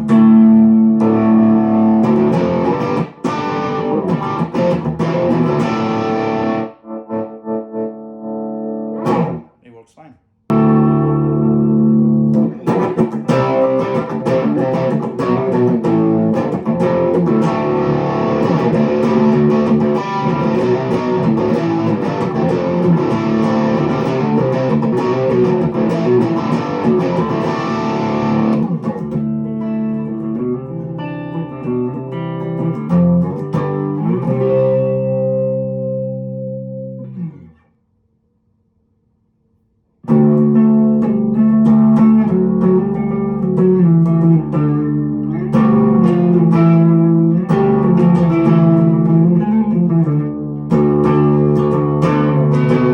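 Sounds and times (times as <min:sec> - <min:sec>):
electric guitar picked notes: 0:00.0 - 0:09.5, 0:10.5 - 0:37.6, 0:40.0 - 0:52.9.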